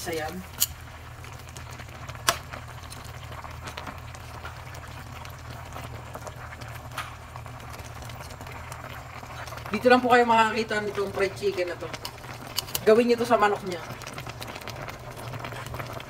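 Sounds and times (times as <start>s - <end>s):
milk bubbling in a pan: 0.0s - 16.0s.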